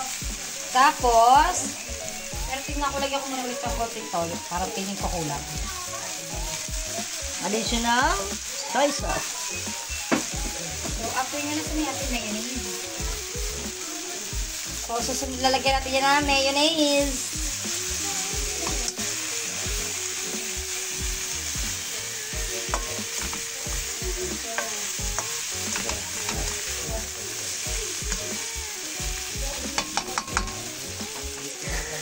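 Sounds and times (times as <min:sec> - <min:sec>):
food sizzling in a wok: 0:00.0 - 0:32.0.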